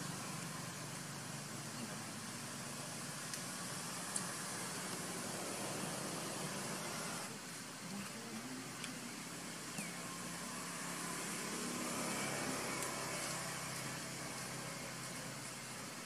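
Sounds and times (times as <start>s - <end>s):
distant vehicle passing: 0.0s - 7.4s, 9.7s - 16.0s
steady background hiss: 0.0s - 16.0s.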